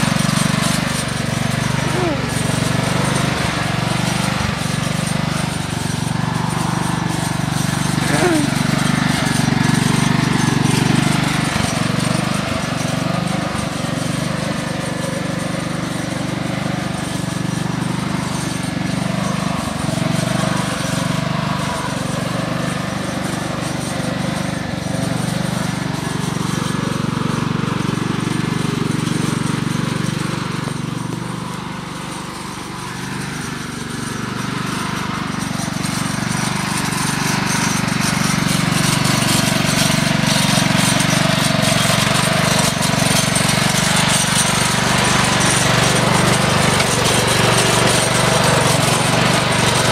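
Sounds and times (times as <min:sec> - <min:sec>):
riding lawn mower engine: 0:00.0 - 0:49.9.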